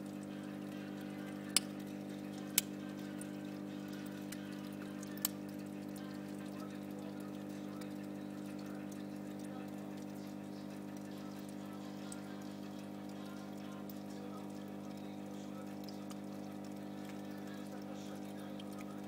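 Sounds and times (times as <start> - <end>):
aquarium filter humming: 0.0 - 19.0
water trickling: 0.0 - 19.0.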